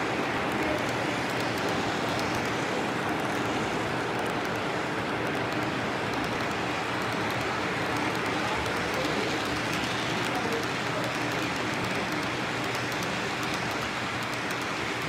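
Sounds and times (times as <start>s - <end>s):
model train wheels rumbling on rails: 0.0s - 15.0s.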